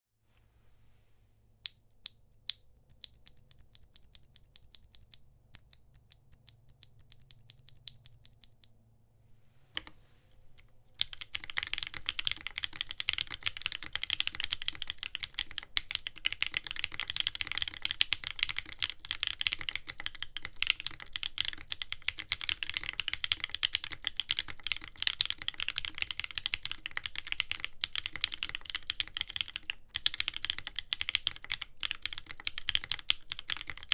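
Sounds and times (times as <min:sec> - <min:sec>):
mechanical keyboard typing: 0:02.9 - 0:08.7, 0:11.0 - 0:33.9.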